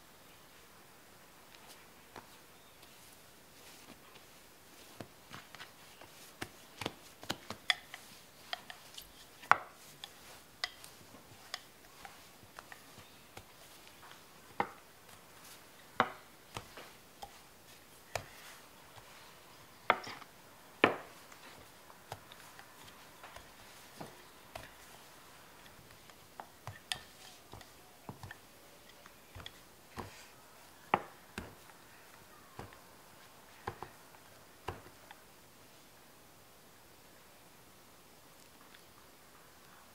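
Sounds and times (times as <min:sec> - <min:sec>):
hands pressing dough: 0:01.5 - 0:35.2.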